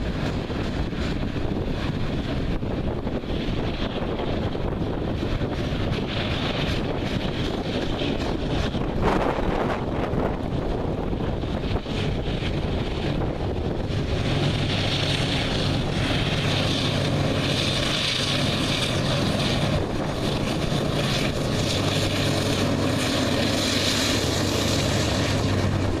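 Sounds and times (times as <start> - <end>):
locomotive engine droning: 0.0 - 26.0.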